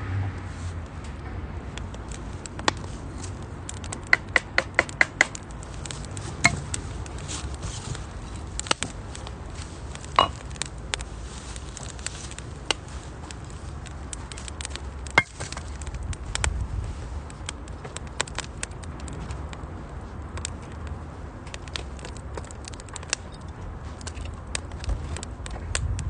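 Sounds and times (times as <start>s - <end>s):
firewood crackling and popping: 0.8s - 26.0s.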